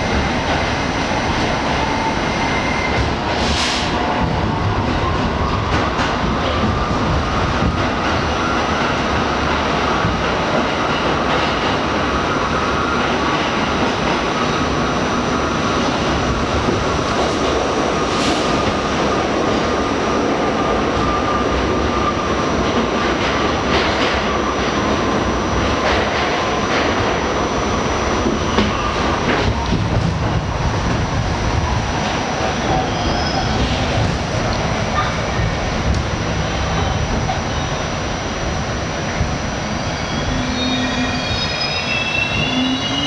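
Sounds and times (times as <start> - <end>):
subway wheels rumbling on track: 0.0 - 43.0.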